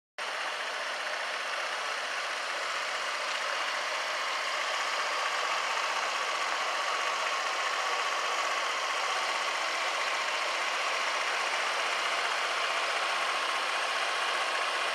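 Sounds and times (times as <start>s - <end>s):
scooter engine idling: 0.2s - 14.9s.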